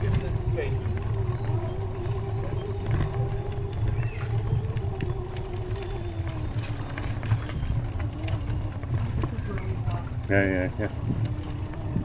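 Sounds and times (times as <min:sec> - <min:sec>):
tyres on brick pavement: 0:00.0 - 0:12.0
wind rumble on microphone: 0:00.0 - 0:12.0.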